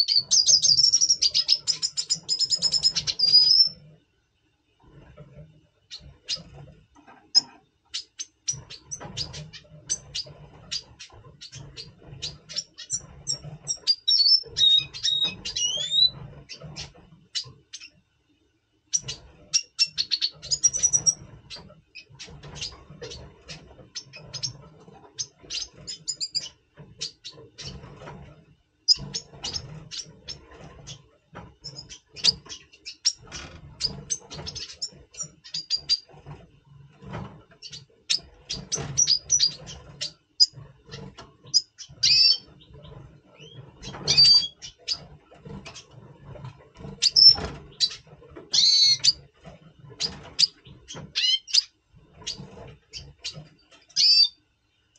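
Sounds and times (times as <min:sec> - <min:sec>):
birds chirping and twittering: 0:00.0 - 0:04.0, 0:04.8 - 0:18.1, 0:18.9 - 0:54.9.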